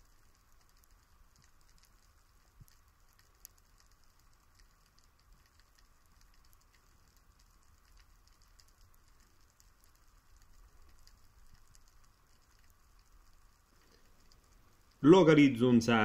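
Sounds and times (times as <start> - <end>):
faint underwater ambience: 0.0 - 16.0
fine crackling ticks: 0.0 - 16.0.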